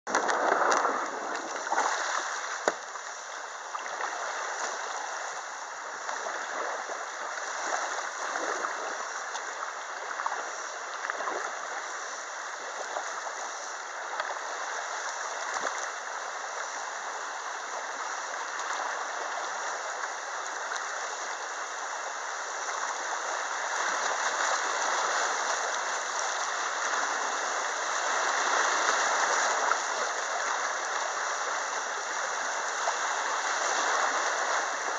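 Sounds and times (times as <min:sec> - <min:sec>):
water rushing over rocks: 0:00.1 - 0:34.9.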